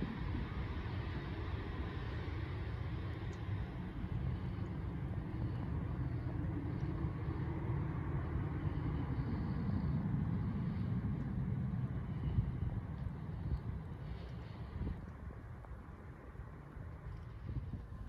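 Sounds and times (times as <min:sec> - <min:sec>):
jet airliner taxiing: 0:00.0 - 0:18.0.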